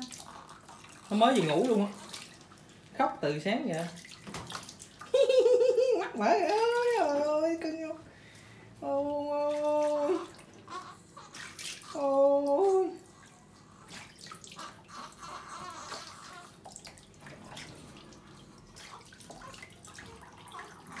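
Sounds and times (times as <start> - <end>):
water splashing in bathtub: 0.0 - 21.0.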